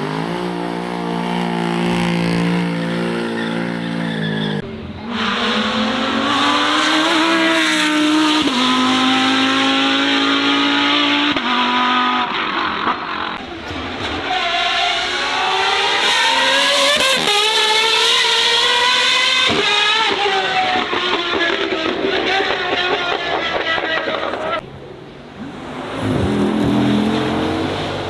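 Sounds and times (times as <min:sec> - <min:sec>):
car engines revving high: 0:00.0 - 0:28.0.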